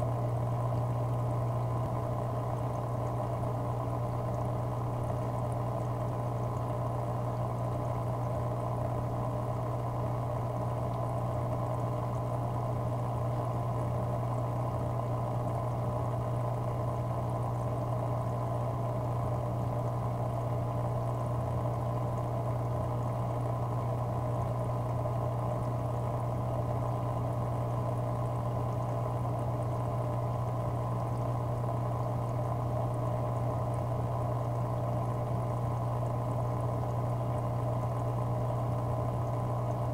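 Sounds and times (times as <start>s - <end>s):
bubbling trickling water: 0.0s - 39.9s
low motor hum: 0.0s - 39.9s.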